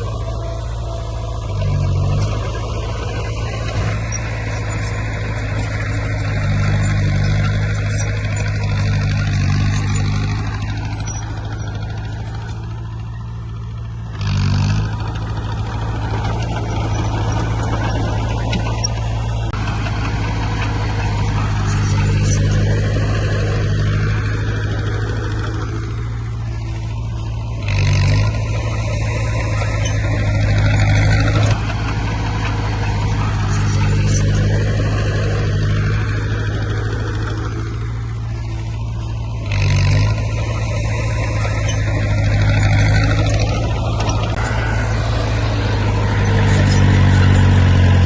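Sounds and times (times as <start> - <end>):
bulldozer diesel engine working: 0.0 - 48.0.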